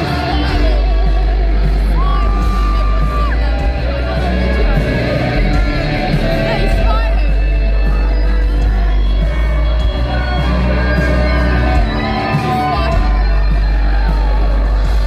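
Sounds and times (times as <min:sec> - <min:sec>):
crowd yelling along: 0:00.0 - 0:15.0
live concert music: 0:00.0 - 0:15.0.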